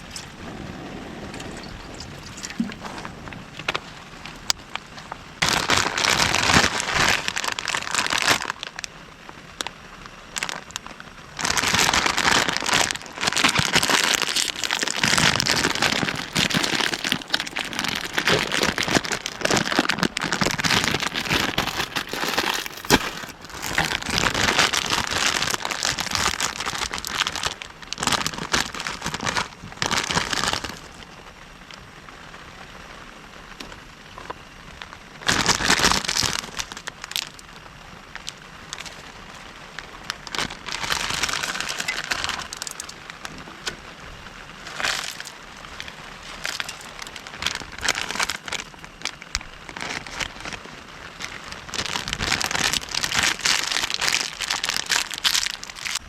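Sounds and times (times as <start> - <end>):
heavy rain on tent fabric: 0.0 - 56.0.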